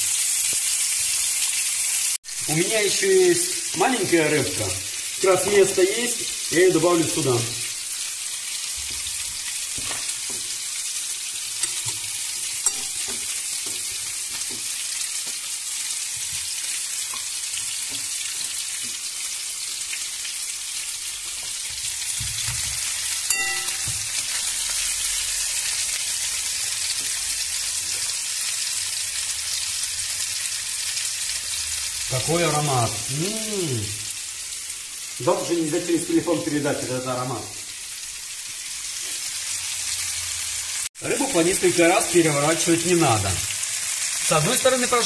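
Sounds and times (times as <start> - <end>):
fish sizzling in oil: 0.0 - 45.0.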